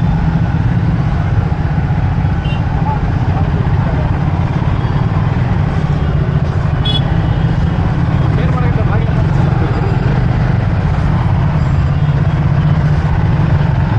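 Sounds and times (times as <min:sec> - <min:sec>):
motorcycle engine: 0:00.0 - 0:13.9
traffic noise: 0:00.0 - 0:13.9.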